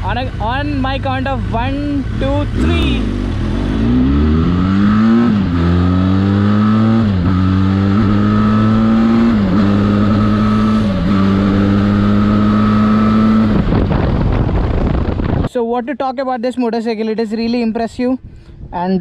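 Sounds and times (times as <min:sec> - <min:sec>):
motorcycle engine accelerating: 0:00.0 - 0:15.5.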